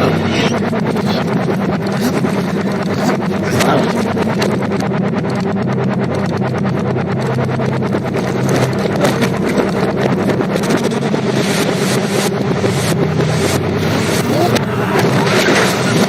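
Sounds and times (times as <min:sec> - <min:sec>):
reversed pulsing film music: 0:00.0 - 0:16.0
steady low hum: 0:00.0 - 0:16.0.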